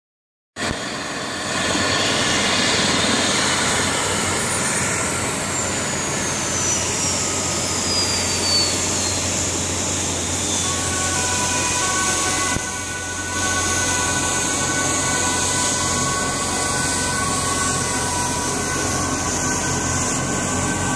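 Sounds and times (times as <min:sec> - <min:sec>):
helicopter engine rushing: 0:00.6 - 0:20.9
high whine falling in pitch: 0:00.6 - 0:20.9.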